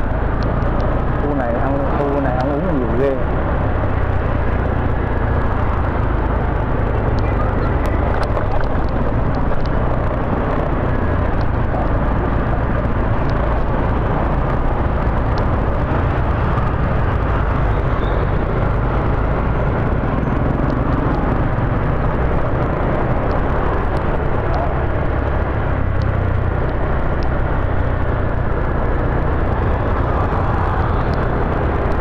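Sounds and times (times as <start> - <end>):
motorbike engines running: 0.0 - 32.0
wind rumble on microphone: 0.0 - 32.0.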